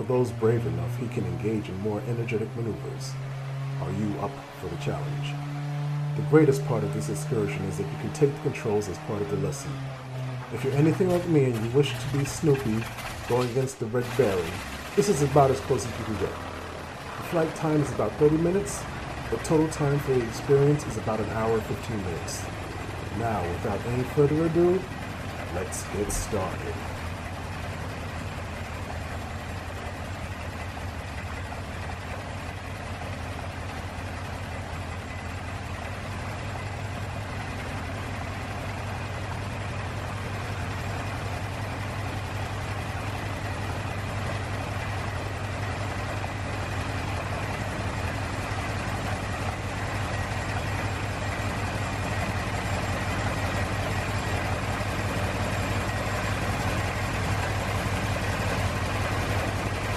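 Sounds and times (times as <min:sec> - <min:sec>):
propeller noise: 0:00.0 - 0:59.9
radial engine idling: 0:00.0 - 0:59.9.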